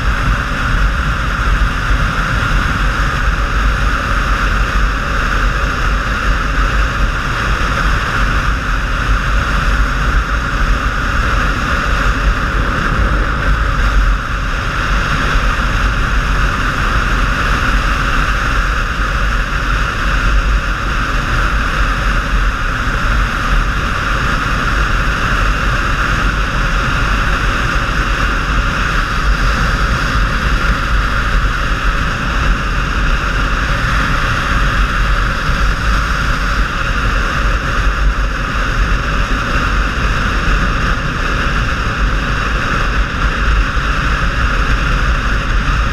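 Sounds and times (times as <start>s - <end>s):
motorcycle engine rumble: 0.0s - 45.9s
wind rushing over camera: 0.0s - 45.9s.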